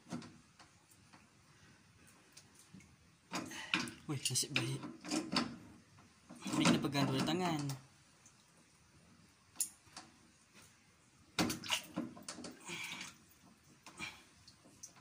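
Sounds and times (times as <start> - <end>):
water splashing in a tank: 0.0 - 15.0.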